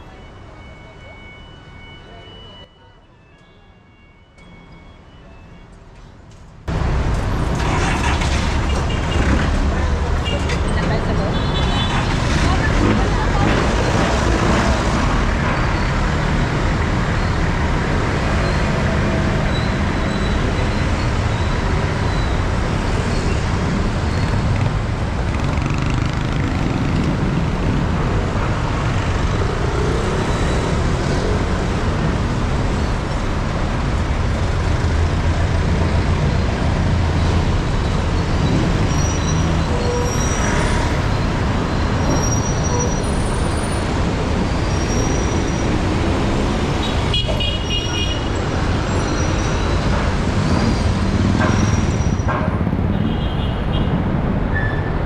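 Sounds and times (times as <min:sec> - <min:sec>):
busy street traffic drone: 0:00.0 - 0:55.0.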